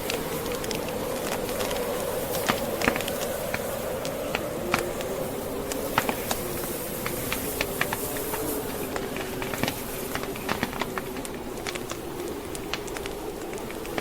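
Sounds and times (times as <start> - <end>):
blizzard wind moaning: 0.0 - 14.0
wood fire crackling: 0.0 - 14.0.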